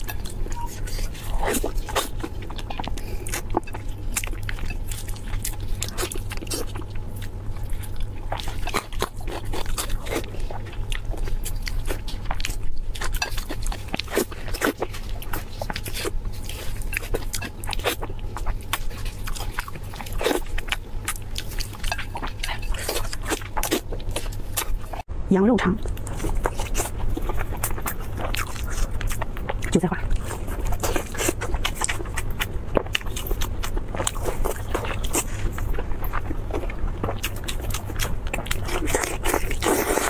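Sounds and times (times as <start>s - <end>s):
crunchy biting and chewing: 0.0s - 25.0s, 25.8s - 40.0s
low hum: 0.0s - 39.8s.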